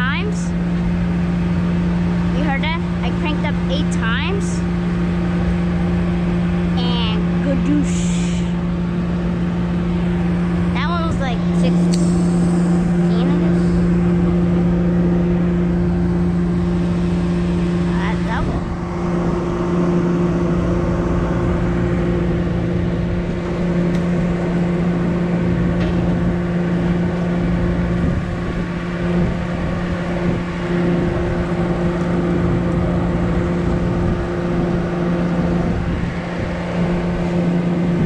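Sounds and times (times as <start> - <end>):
boat engine humming: 0.0 - 38.0
wind: 0.0 - 38.0.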